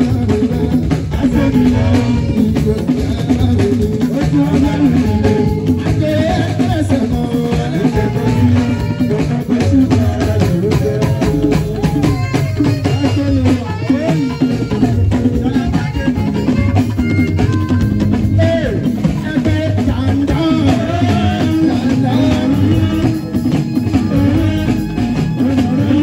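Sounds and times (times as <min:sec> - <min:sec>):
drum kit: 0:00.0 - 0:26.0
electric guitars: 0:00.0 - 0:26.0
man singing into a microphone: 0:00.0 - 0:26.0
talking drums: 0:00.0 - 0:26.0.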